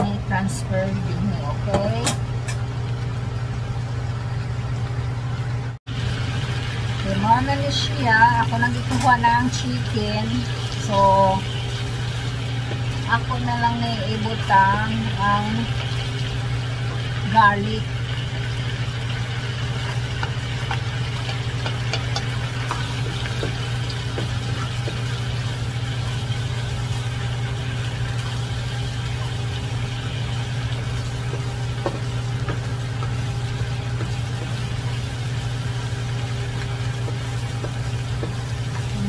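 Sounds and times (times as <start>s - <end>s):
garlic sizzling in marinade: 0.0s - 39.0s
steady low hum: 0.0s - 39.0s.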